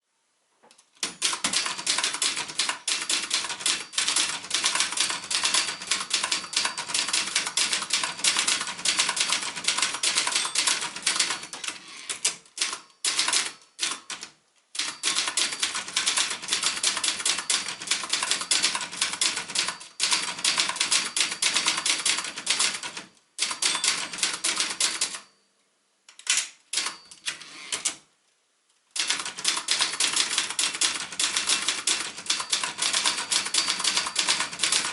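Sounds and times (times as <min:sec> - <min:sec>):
manual typewriter typing: 0:01.0 - 0:25.3, 0:26.2 - 0:28.0, 0:29.0 - 0:34.9.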